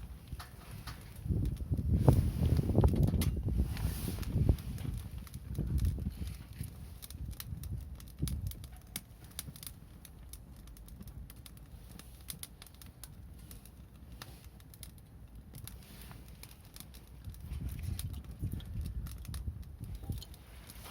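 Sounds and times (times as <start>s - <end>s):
bonfire crackling: 0.0s - 20.9s
low fire rumble: 0.0s - 20.9s.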